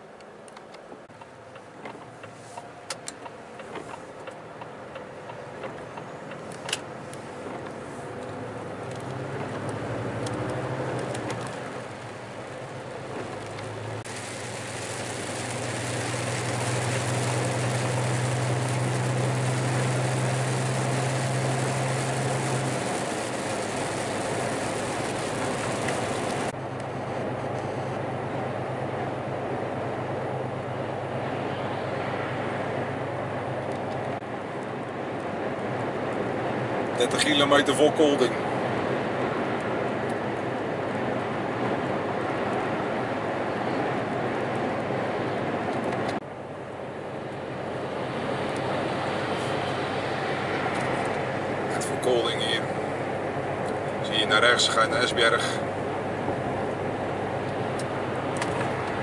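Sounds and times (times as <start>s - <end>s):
lorry engine and road noise: 0.0s - 59.0s.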